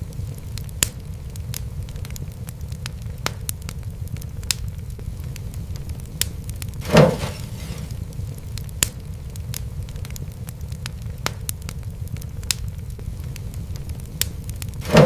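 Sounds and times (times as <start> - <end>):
fire hissing: 0.0 - 15.0
wood fire crackling: 0.0 - 15.0.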